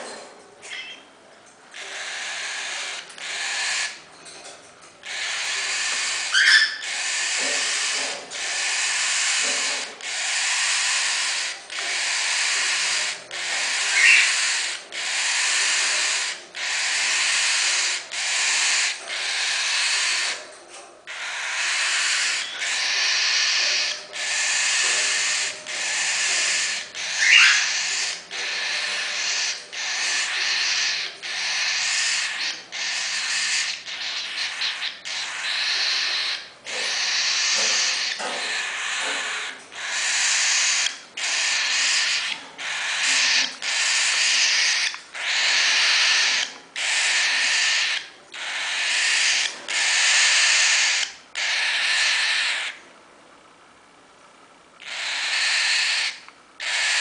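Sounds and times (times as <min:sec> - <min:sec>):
cockatiel chicks begging calls: 0:01.7 - 0:04.1, 0:05.0 - 0:52.8, 0:54.8 - 0:57.0.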